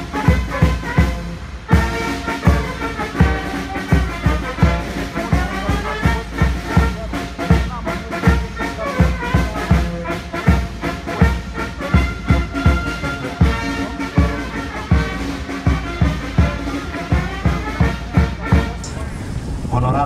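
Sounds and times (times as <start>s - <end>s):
brass band playing: 0.0s - 19.0s
steady drum beat: 0.0s - 19.0s.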